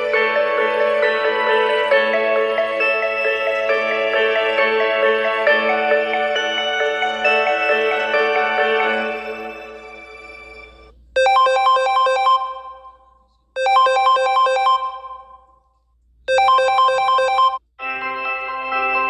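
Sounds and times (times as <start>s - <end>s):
ringtone with held chords: 0.0s - 15.5s, 16.3s - 19.0s
chiming phone ringtone: 2.6s - 15.6s, 16.3s - 19.0s.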